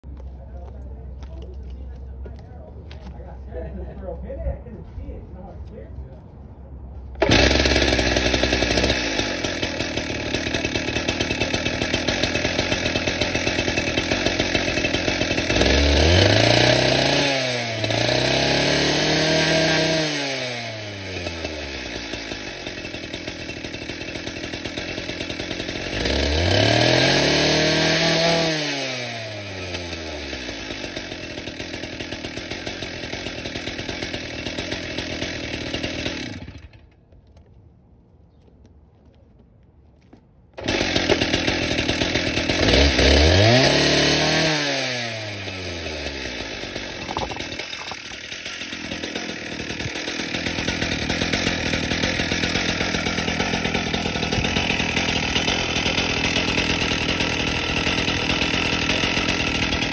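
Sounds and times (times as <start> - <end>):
cut-off saw engine revving: 7.2 - 36.8, 40.6 - 59.9.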